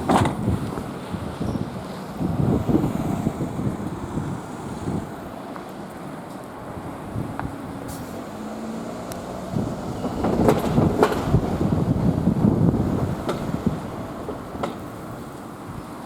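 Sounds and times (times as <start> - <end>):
wind buffeting microphone: 0.0 - 5.5, 6.5 - 8.1, 9.1 - 16.0.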